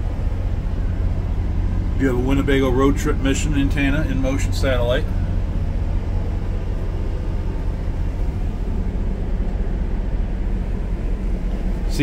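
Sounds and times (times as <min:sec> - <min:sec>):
low rumbling machinery hum: 0:00.0 - 0:12.0.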